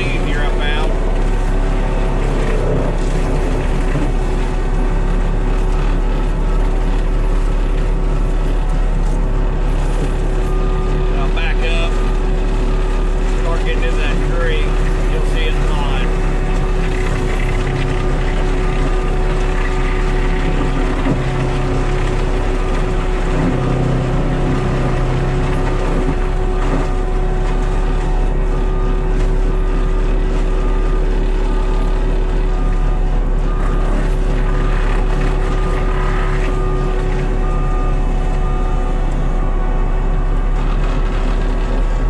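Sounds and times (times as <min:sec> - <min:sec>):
skid steer mulcher running: 0:00.0 - 0:42.0.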